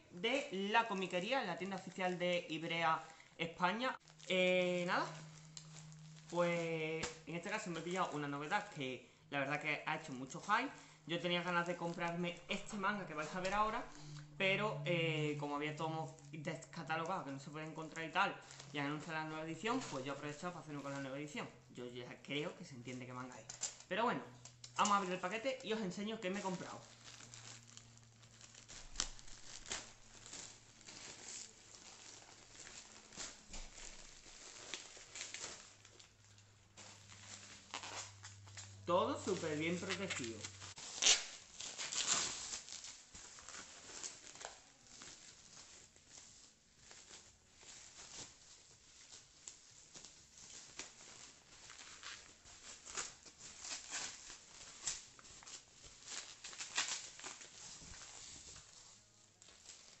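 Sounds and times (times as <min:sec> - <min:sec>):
bubble wrap being pulled out: 0:00.0 - 0:08.8, 0:09.8 - 0:21.1, 0:22.9 - 1:00.0
package rustling and crinkling: 0:00.0 - 0:08.8, 0:10.0 - 0:14.4, 0:16.1 - 0:20.8, 0:22.8 - 1:00.0.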